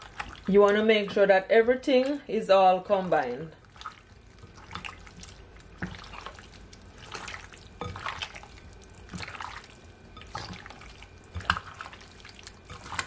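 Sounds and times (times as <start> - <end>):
hand squelching raw meat in paste: 0.0 - 1.1, 3.6 - 13.0.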